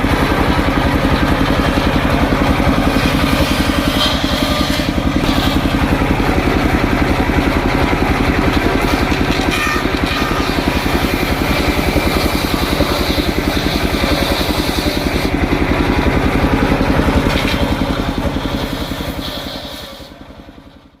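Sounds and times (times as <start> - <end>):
circular saw engine running: 0.0 - 21.0.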